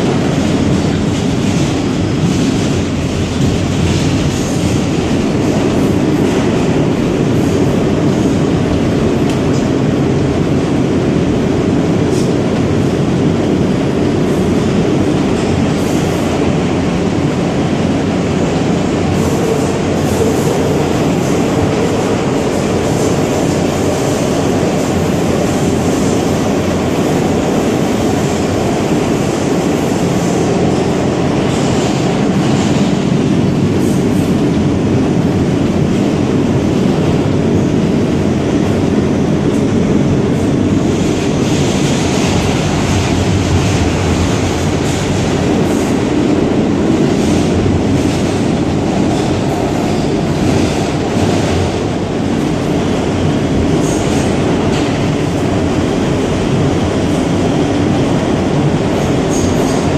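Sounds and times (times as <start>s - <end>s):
subway wheels rumbling on rails: 0.0s - 59.9s.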